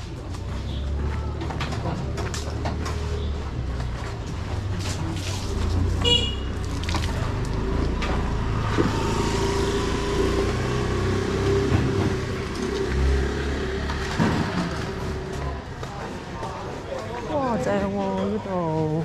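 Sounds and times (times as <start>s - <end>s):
low traffic rumble: 0.0s - 19.0s
vehicle engine running: 0.1s - 16.5s.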